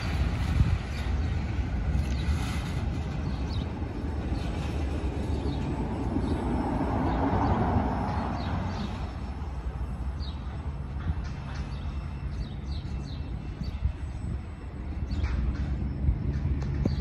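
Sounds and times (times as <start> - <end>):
low rumble of train: 0.0 - 17.0.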